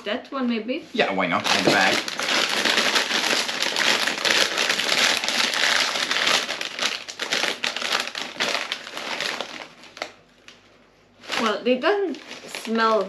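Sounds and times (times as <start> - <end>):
chip bag crinkling: 1.4 - 13.0.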